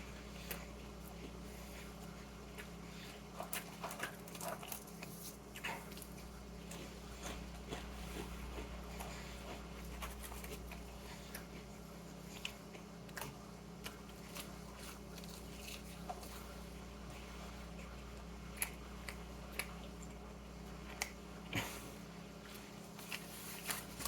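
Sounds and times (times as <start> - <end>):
person chewing crunchy food: 0.0 - 24.0
steady low hum: 0.0 - 24.0.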